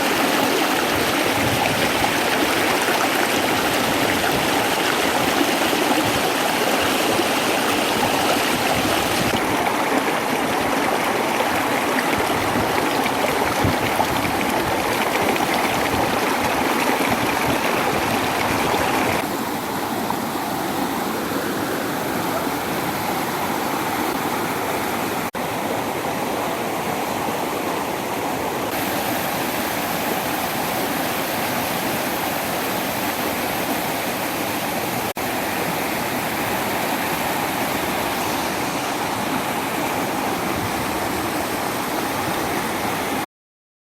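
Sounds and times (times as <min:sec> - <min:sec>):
waterfall rushing: 0:00.0 - 0:43.2.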